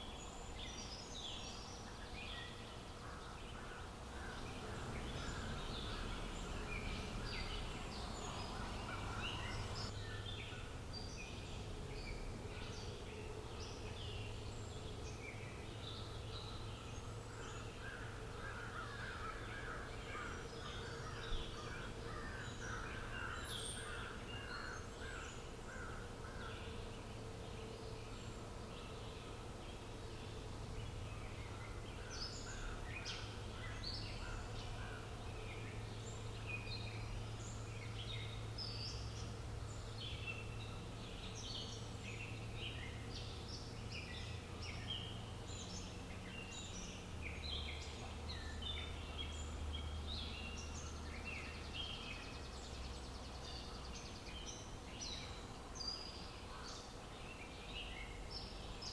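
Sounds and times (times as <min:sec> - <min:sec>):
birds chirping: 0:00.0 - 0:58.9
low background hum: 0:00.0 - 0:58.9.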